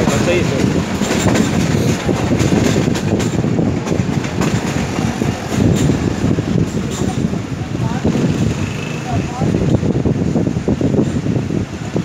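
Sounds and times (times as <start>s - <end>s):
train coach rattling: 0.0s - 12.0s
train wheels rumbling on rails: 0.0s - 12.0s.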